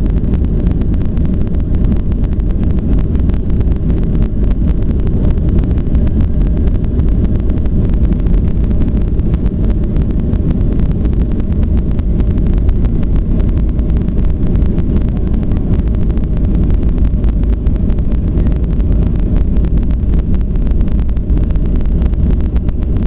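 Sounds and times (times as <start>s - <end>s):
jet engines rumbling in cabin: 0.0s - 23.0s.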